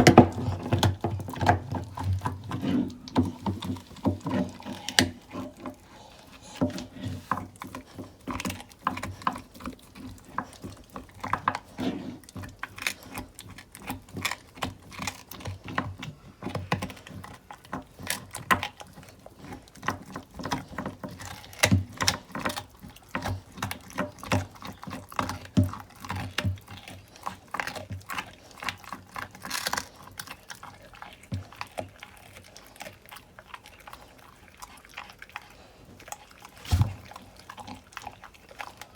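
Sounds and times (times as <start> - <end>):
dog chewing bones: 0.0 - 38.9.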